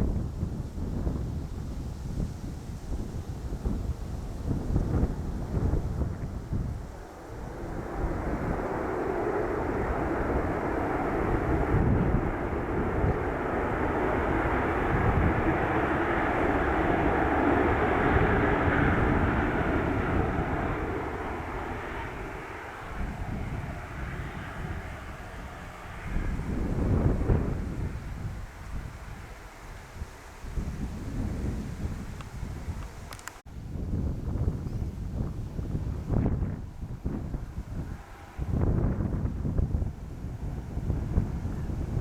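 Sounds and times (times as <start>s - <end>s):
airliner engine passing by: 0.0s - 42.0s
wind rumble on microphone: 0.0s - 42.0s.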